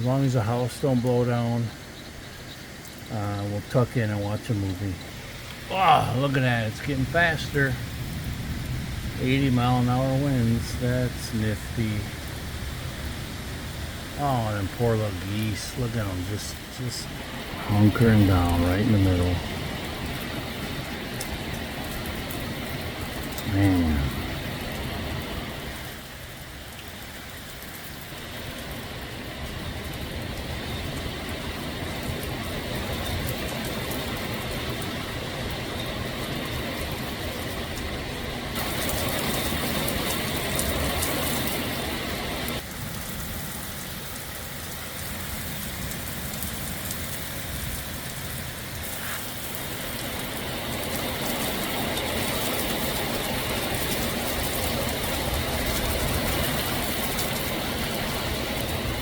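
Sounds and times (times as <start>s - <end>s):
gusting wind: 0.0s - 59.0s
torrential rain: 0.0s - 59.0s.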